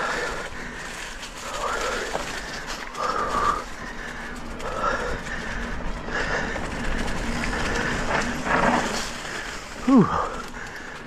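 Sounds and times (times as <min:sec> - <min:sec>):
bike tyre trail noise: 0:00.0 - 0:11.0
rider breathing hard: 0:00.0 - 0:11.0.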